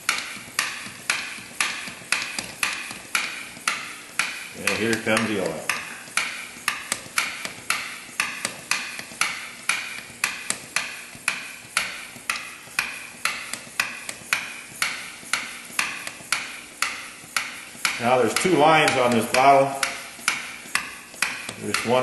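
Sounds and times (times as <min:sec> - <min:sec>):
hand pump clicking: 0:00.0 - 0:22.0.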